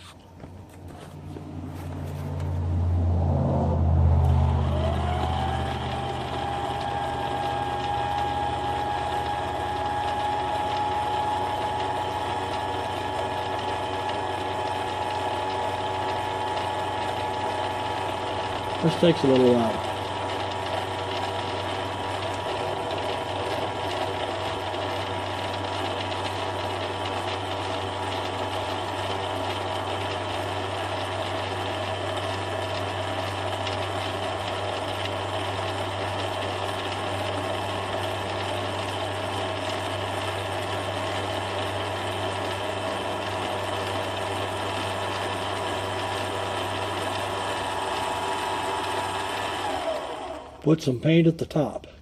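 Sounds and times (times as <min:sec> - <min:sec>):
electric jack motor running: 0:00.0 - 0:50.7.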